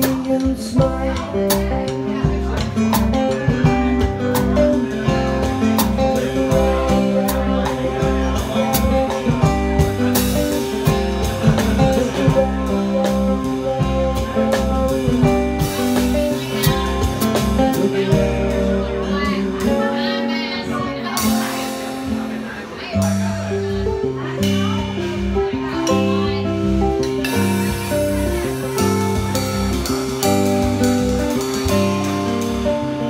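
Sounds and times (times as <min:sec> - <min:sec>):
drum kit playing: 0:00.0 - 0:33.0.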